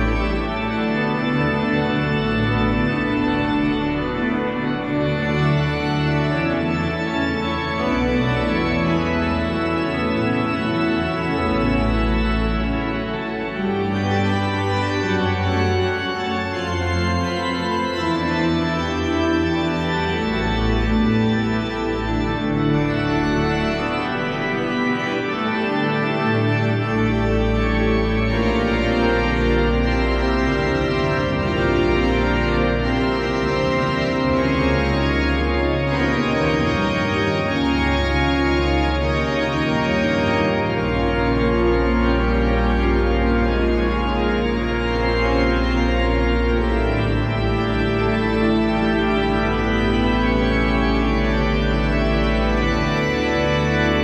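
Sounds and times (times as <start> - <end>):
pipe organ playing chords: 0.0 - 54.0.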